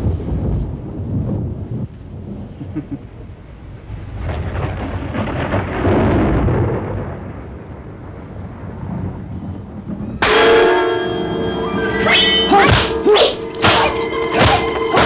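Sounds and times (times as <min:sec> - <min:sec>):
low rolling rumble: 0:00.0 - 0:12.5.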